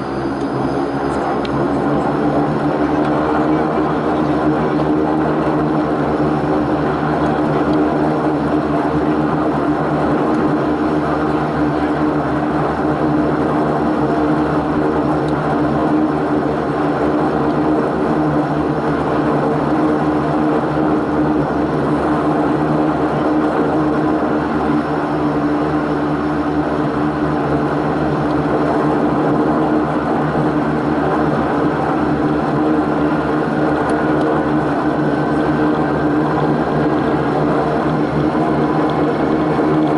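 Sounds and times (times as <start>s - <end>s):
faint engine whine: 0.0s - 39.9s
turboprop engines droning: 0.0s - 39.9s.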